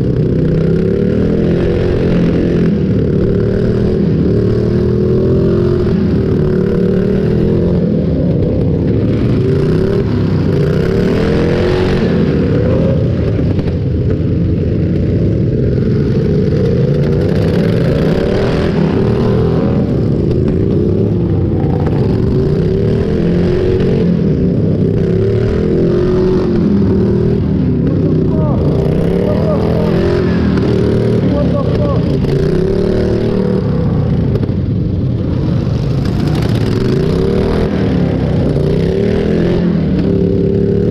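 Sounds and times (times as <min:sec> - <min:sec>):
lawn tractor engines revving: 0:00.0 - 0:40.9.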